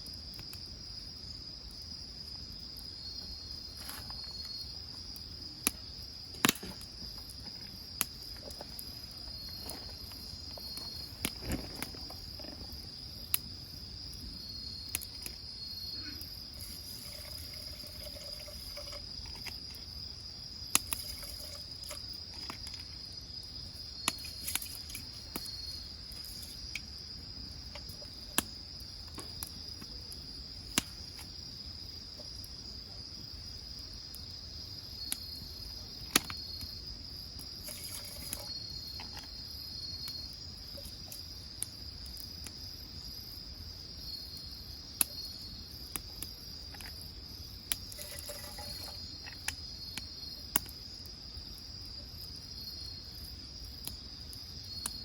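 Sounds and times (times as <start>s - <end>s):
high insect trill: 0.0s - 55.0s
firewood crackling and popping: 0.1s - 32.6s, 33.9s - 55.0s.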